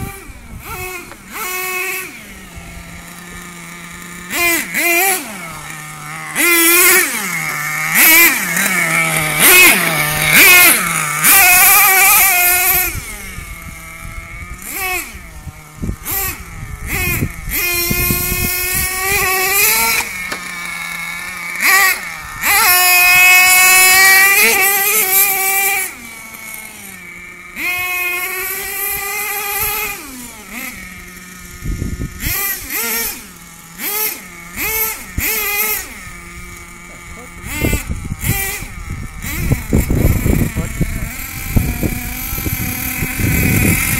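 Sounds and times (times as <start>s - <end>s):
nitro engine revving: 0.0s - 43.9s.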